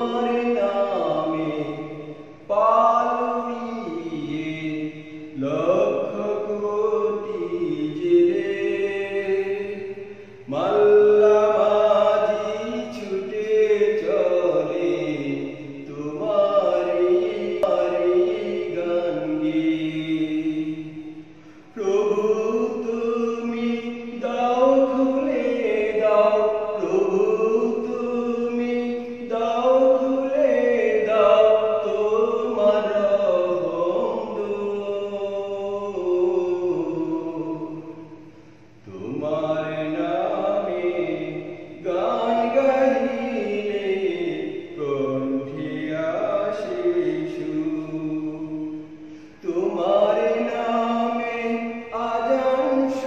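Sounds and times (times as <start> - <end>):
man singing devotional song: 0.0 - 53.0.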